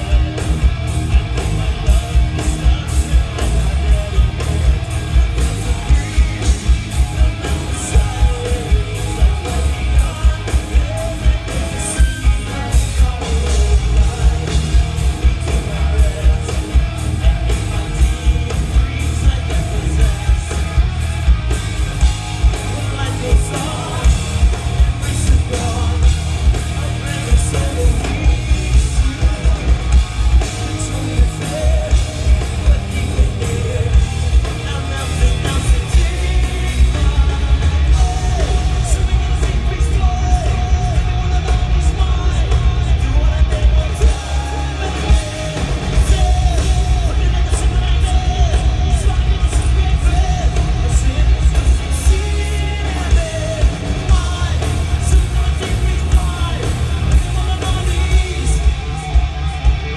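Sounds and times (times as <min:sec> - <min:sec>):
bass: 0:00.0 - 0:59.9
distorted electric guitars: 0:00.0 - 0:59.9
pounding drumbeat: 0:00.0 - 0:59.9.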